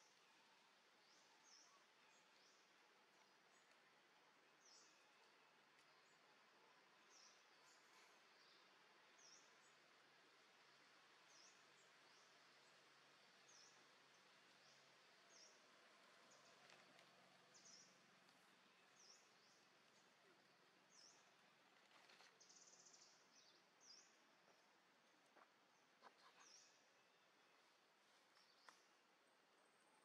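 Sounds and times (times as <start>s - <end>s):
faint outdoor ambience: 0.0s - 30.0s.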